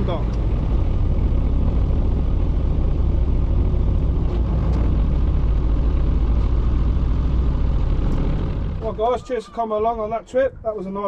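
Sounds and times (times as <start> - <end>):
boat engine rumbling: 0.0 - 11.0
water and wind noise: 0.0 - 11.0.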